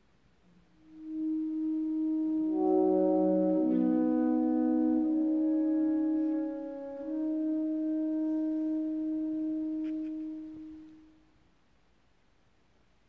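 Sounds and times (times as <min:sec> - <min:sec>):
saxophone quartet chord: 0:00.8 - 0:11.3.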